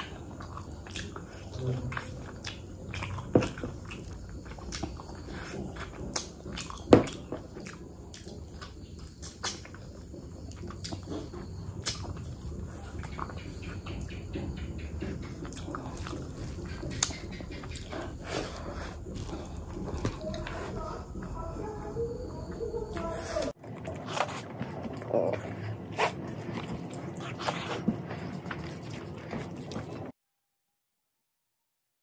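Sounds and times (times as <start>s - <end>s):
wet chewing and smacking: 0.0s - 30.1s.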